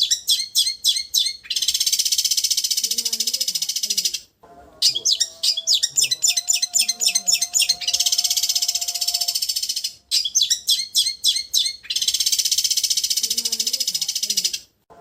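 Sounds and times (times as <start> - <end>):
bird chirping and trilling: 0.0 - 14.7.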